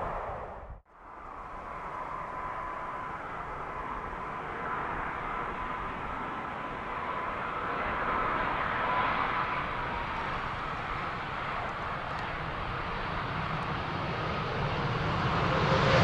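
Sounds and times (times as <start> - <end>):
jet airliner engines rushing: 0.0 - 16.0.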